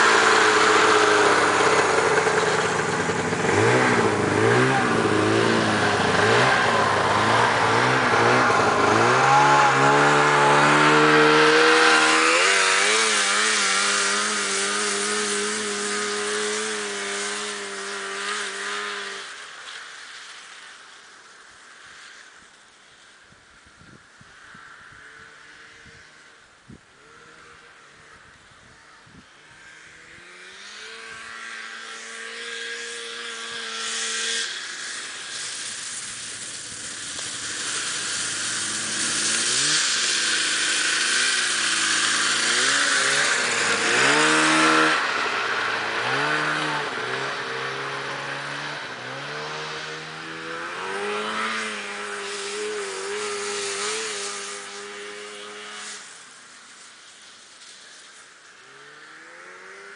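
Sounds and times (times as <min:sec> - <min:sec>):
snowmobile engine revving: 0:00.0 - 0:22.3, 0:24.4 - 0:59.9.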